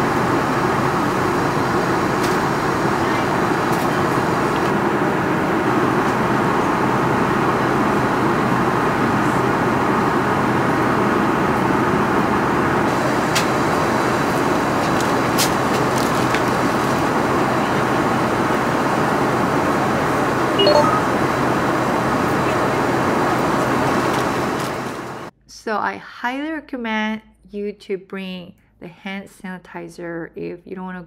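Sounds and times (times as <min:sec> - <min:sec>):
airliner cabin engine rush: 0:00.0 - 0:25.3.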